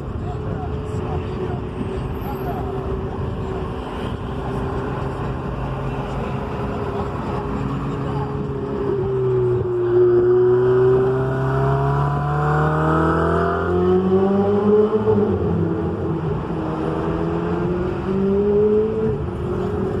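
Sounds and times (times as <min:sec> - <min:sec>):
sports car engine accelerating: 0:02.9 - 0:20.0.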